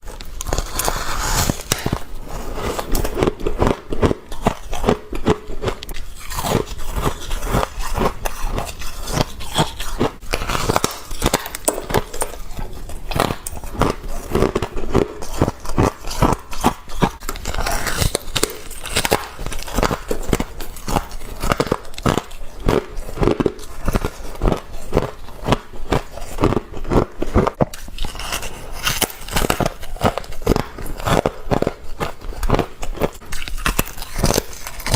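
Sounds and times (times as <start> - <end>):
person crunching ice: 0.0 - 34.9.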